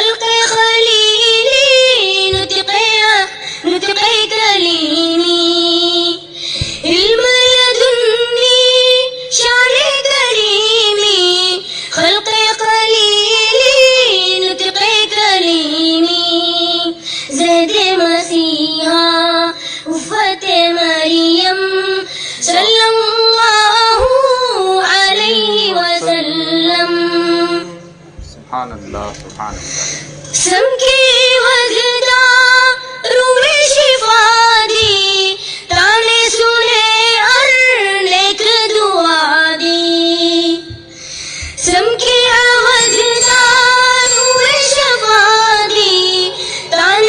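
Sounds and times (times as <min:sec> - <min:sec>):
child singing a devotional hymn: 0:00.0 - 0:27.8, 0:30.4 - 0:47.0.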